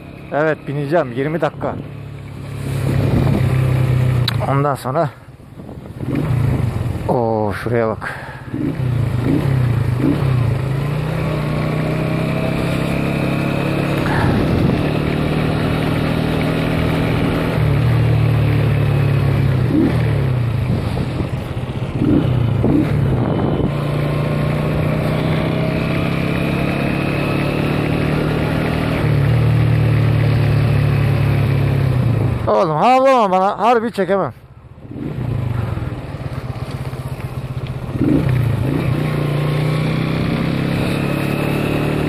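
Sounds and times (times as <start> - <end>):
motorcycle engine running: 0.0 - 33.0, 34.4 - 42.0.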